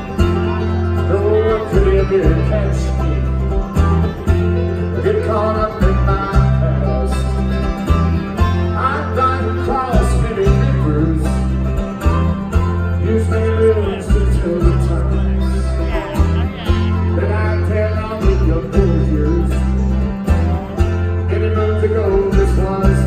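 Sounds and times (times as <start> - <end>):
acoustic guitar: 0.0 - 23.0
banjo: 0.0 - 23.0
deep bass line: 0.0 - 23.0
resonator guitar: 0.0 - 23.0
person singing: 0.3 - 3.8, 4.4 - 7.5, 8.4 - 11.8, 12.6 - 23.0.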